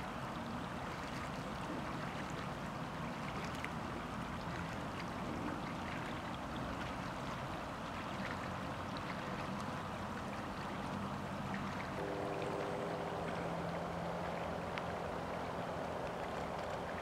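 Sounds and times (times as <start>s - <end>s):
rippling shallow water: 0.0s - 17.0s.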